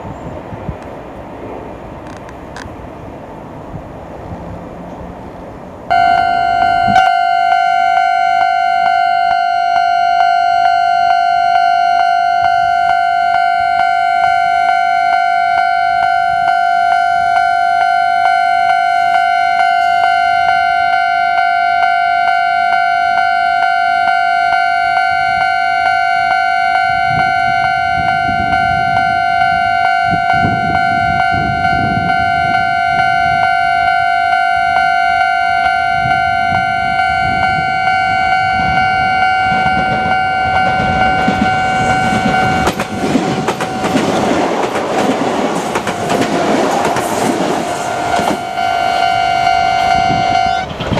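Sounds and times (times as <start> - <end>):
level-crossing alarm ringing: 5.9 - 50.9.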